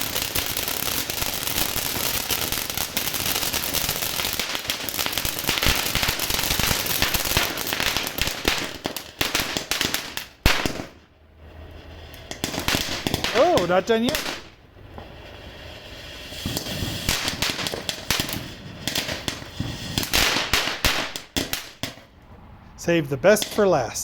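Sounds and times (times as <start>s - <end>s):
firework fountain crackling: 0.0s - 24.0s.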